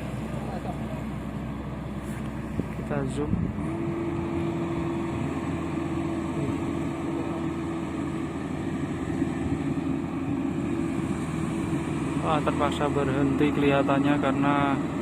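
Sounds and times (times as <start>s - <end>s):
combine harvester engine humming: 0.0s - 15.0s.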